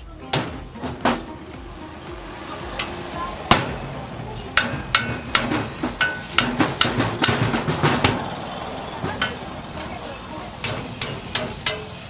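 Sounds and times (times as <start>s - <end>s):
hammer striking metal: 0.0s - 12.0s.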